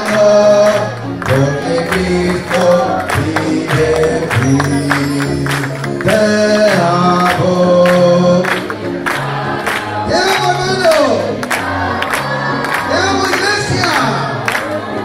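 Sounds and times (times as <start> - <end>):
congregation singing worship song: 0.0 - 15.0
instrumental accompaniment: 0.0 - 15.0
people clapping along: 0.0 - 15.0.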